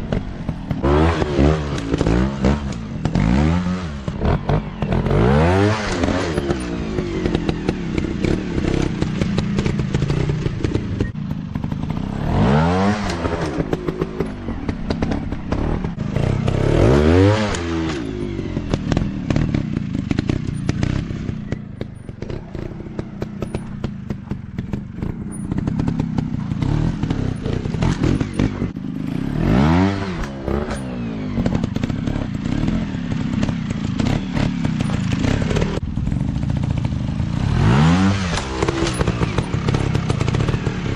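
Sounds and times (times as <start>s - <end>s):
bike clattering and knocking: 0.0s - 5.2s, 5.9s - 29.5s, 30.2s - 37.4s, 38.1s - 40.9s
dirt bike engine revving: 0.0s - 40.9s.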